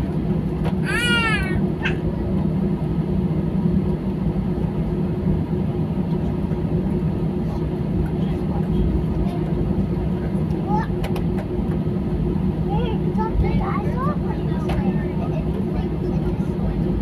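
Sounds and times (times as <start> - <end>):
airliner cabin hum: 0.0 - 17.0.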